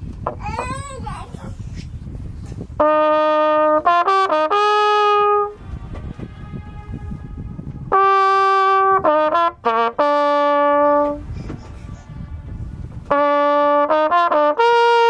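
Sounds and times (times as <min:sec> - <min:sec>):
flugelhorn playing: 0:02.8 - 0:15.0.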